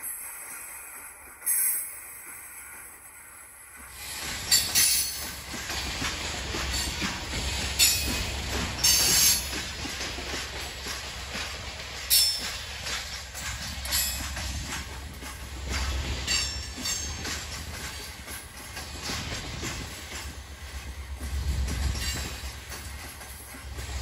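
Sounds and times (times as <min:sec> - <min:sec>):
steel wheels rumbling on rail: 0:00.0 - 0:24.0.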